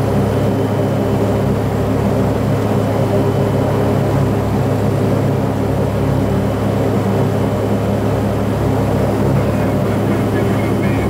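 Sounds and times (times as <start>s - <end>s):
turboprop engines droning: 0.0s - 11.0s.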